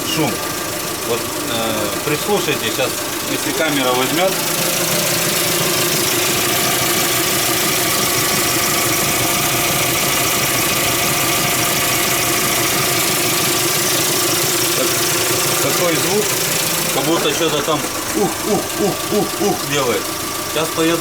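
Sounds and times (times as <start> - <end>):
van engine idling: 0.0 - 21.0.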